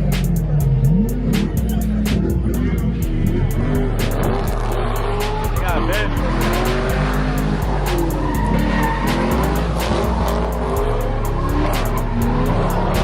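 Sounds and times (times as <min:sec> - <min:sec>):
car engines revving: 0:00.0 - 0:13.0
hip-hop beat: 0:00.0 - 0:13.0
tyres squealing: 0:01.4 - 0:13.0.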